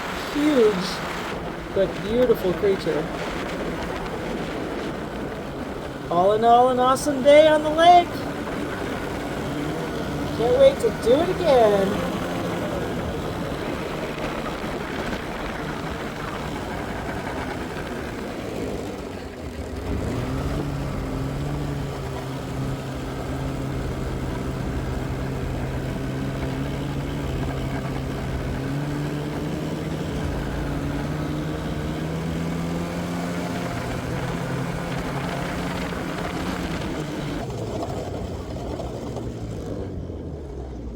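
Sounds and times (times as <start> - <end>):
rushing noise: 0.0 - 37.5
snowmobile engine running: 0.0 - 40.9.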